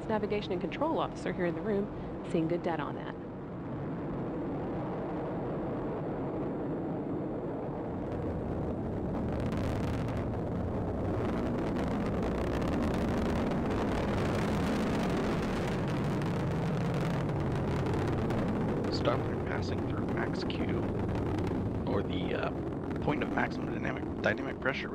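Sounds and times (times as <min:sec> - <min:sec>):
rocket rumble with crackling: 0:00.0 - 0:24.9.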